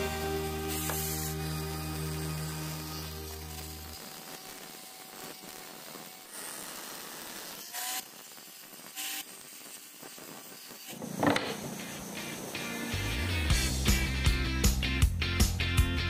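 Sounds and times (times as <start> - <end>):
grinder scraping: 0.0 - 13.1
angle grinder grinding metal: 0.0 - 13.5.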